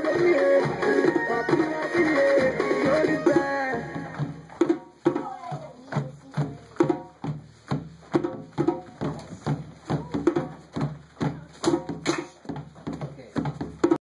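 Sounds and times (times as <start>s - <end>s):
hand drum rhythm: 0.0s - 14.0s.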